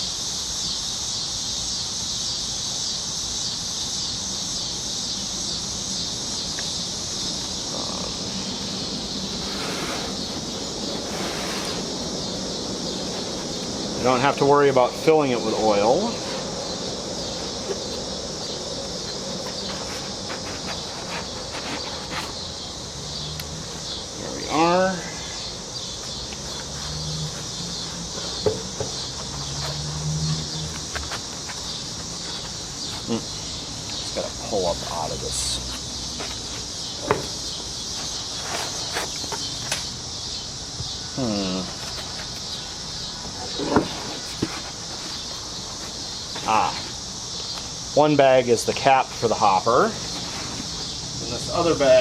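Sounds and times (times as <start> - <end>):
cicadas buzzing: 0.0 - 52.0.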